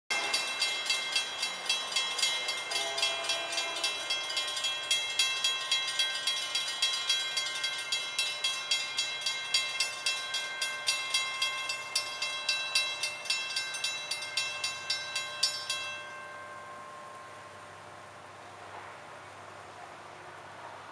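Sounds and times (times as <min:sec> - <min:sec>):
crossing warning bells ringing: 0:00.1 - 0:18.7.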